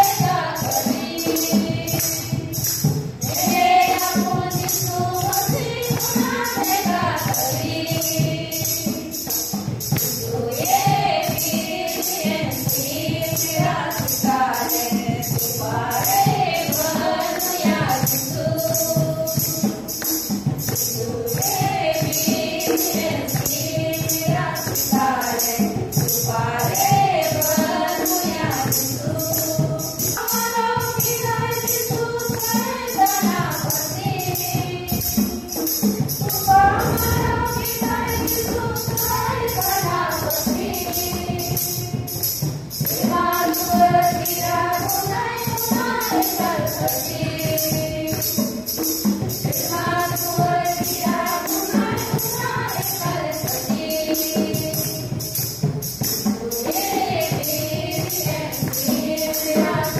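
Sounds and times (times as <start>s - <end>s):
jingling percussion shaken: 0.0s - 59.9s
women singing a hymn: 0.0s - 59.9s.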